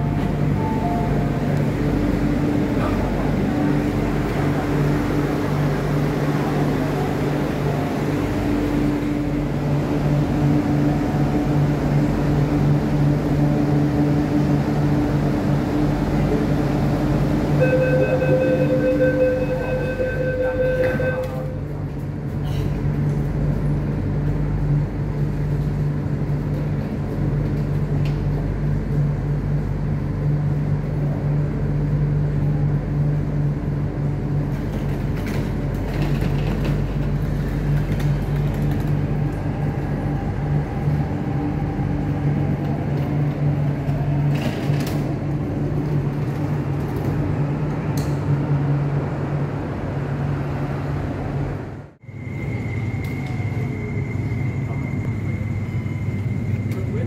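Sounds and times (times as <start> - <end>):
train electric hum: 0.0 - 57.0.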